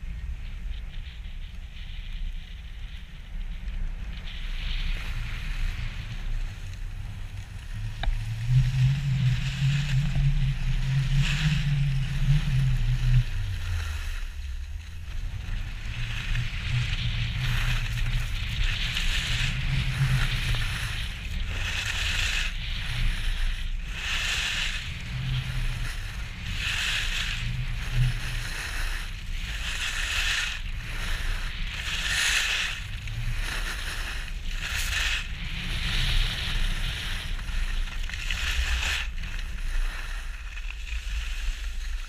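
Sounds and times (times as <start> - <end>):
wind rumble on microphone: 0.0 - 42.0
skis hissing on snow: 4.1 - 42.0.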